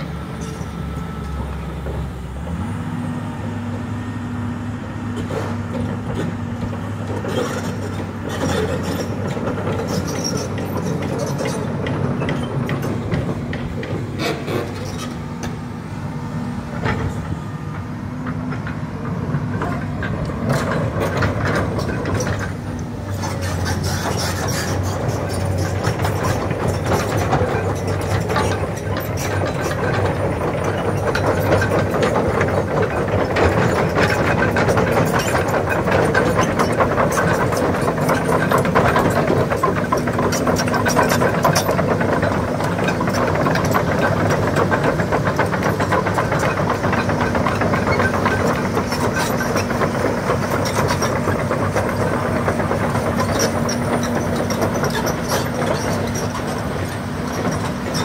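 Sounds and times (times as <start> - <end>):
excavator diesel engine running: 0.0 - 58.0
machine knocks and rattles: 5.2 - 15.6, 16.7 - 58.0.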